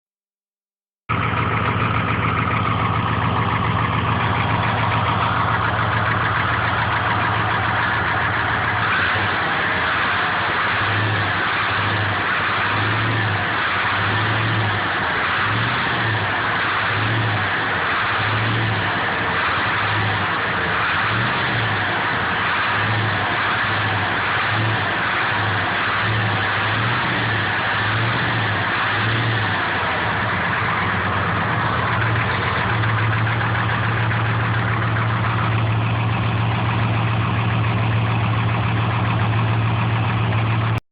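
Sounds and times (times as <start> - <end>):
car engine idling: 1.1 - 40.8.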